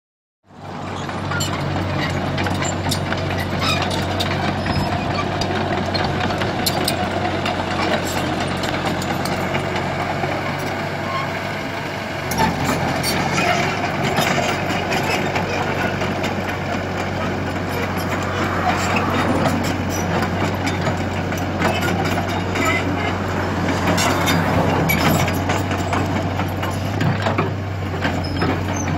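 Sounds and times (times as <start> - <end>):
excavator diesel engine running: 0.5 - 28.9.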